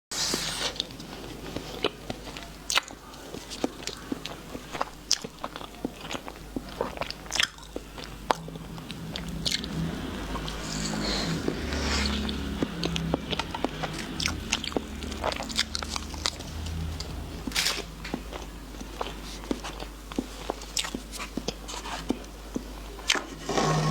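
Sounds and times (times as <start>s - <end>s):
crunchy biting and chewing: 0.2s - 23.3s.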